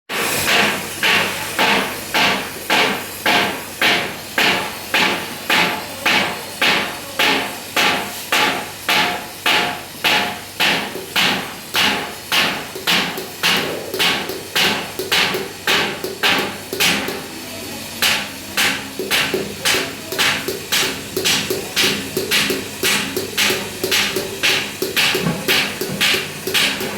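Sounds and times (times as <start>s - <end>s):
metal strips being hammered: 0.4s - 17.3s, 18.0s - 26.9s.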